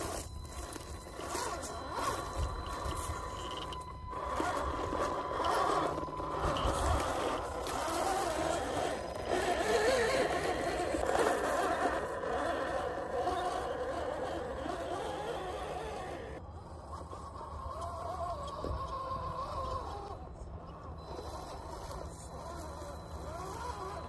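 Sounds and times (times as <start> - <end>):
rc car motor whine: 0.0 - 24.0.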